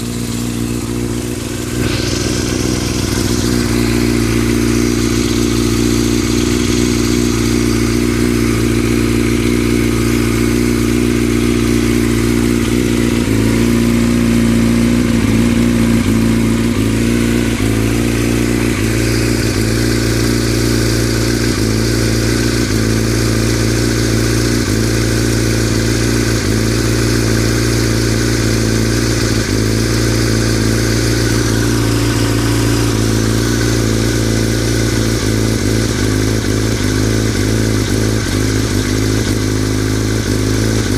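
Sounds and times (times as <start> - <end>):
engine rattling: 0.0 - 40.9
motorcycle engine idling: 0.0 - 40.9.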